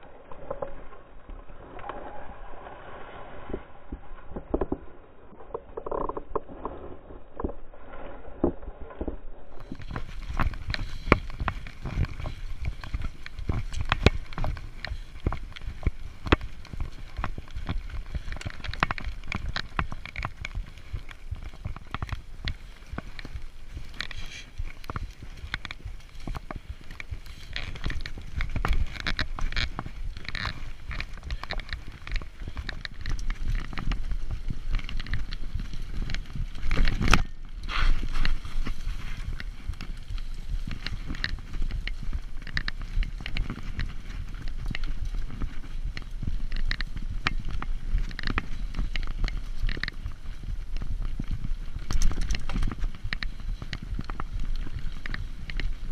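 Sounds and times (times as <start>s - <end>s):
tyre and wind rumble: 0.0s - 55.9s
bike rattling over ground: 4.0s - 55.9s.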